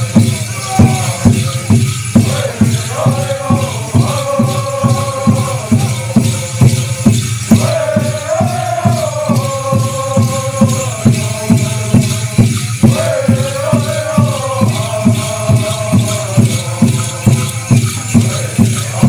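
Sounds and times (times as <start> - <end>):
shaking rattle: 0.0 - 19.0
steady drum beat: 0.0 - 19.0
voices chanting in unison: 0.0 - 19.0.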